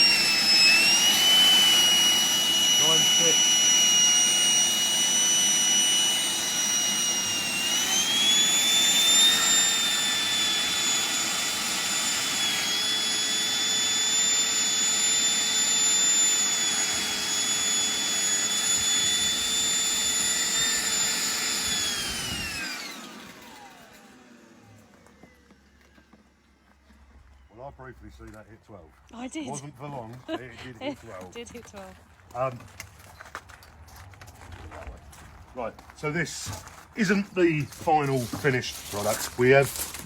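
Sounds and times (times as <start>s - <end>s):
vacuum motor whine: 0.0s - 28.5s, 29.1s - 40.0s.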